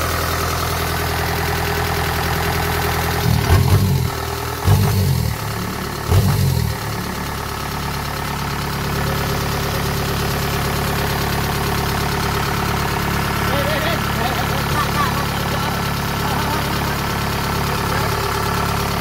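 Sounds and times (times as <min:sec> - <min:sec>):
farm machine engine idling: 0:00.0 - 0:19.0.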